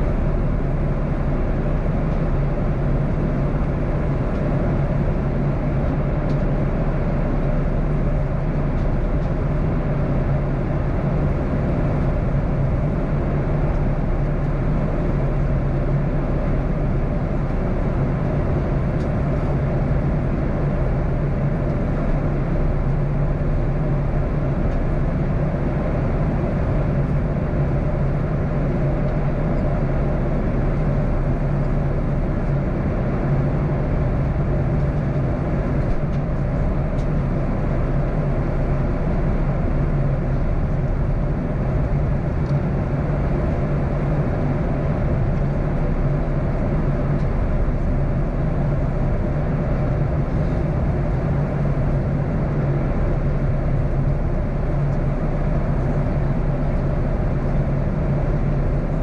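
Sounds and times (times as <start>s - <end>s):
constant low hum: 0.0s - 59.0s
jet engines droning: 0.0s - 59.0s.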